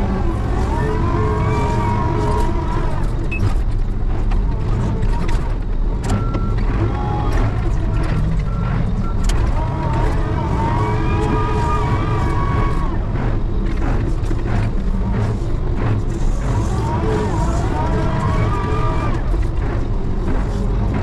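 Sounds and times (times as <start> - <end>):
heavy machine engine running: 0.0 - 21.0
wavering whine: 0.0 - 21.0.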